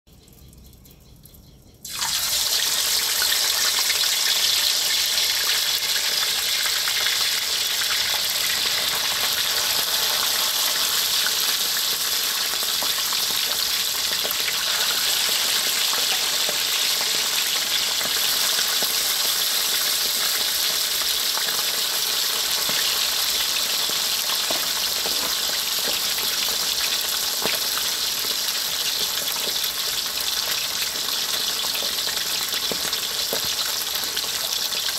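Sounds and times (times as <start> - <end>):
fish deep-frying in hot oil: 1.8 - 34.9.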